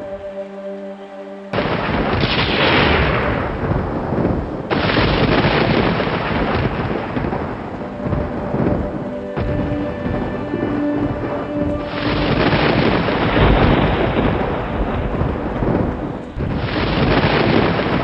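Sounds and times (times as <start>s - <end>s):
soft ambient music: 0.0s - 18.0s
thunder cracking and rolling: 1.6s - 18.0s.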